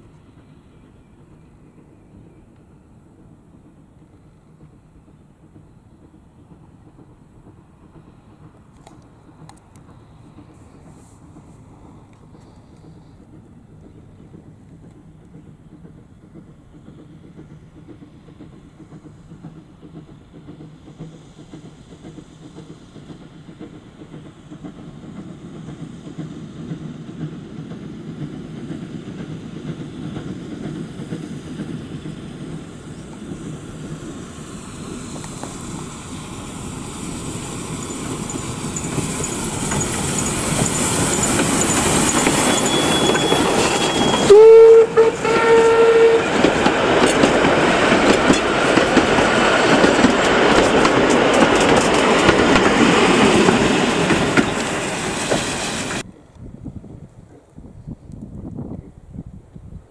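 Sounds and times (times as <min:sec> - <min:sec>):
steam engine hiss: 0:00.0 - 0:56.1
wheels clattering on rails: 0:00.0 - 0:56.1
steam locomotive approaching: 0:00.0 - 0:59.9.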